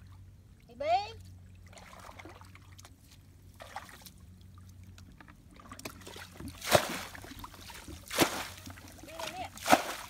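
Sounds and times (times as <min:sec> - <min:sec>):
water trickling and sloshing: 0:00.0 - 0:10.0
buckets of water splashing: 0:01.4 - 0:10.0.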